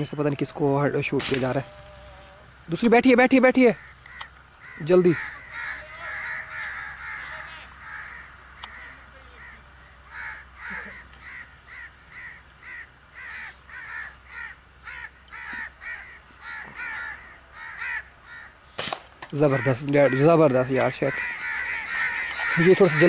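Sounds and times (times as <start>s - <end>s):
bird calling: 0.0s - 23.0s.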